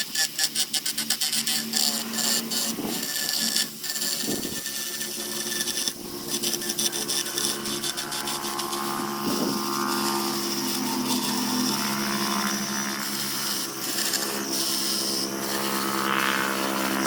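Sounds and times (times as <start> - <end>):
power tool grinding wood: 0.0 - 17.0.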